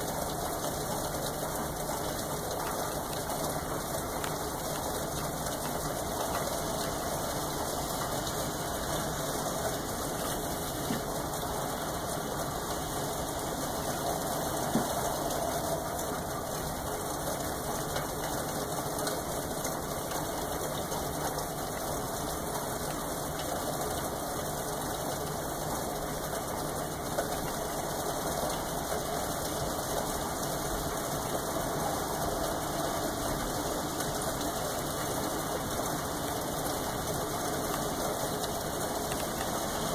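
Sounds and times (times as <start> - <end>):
faint rain drop ticks: 0.0 - 39.9
steady rain falling: 0.0 - 39.9.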